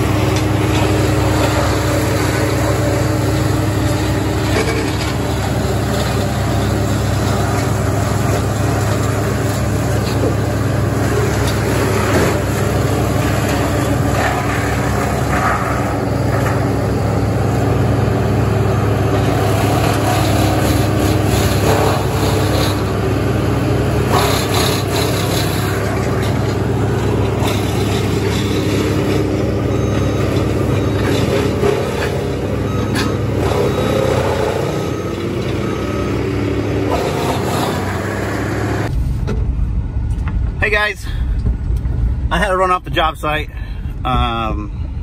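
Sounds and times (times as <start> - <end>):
diesel machine running: 0.0 - 45.0.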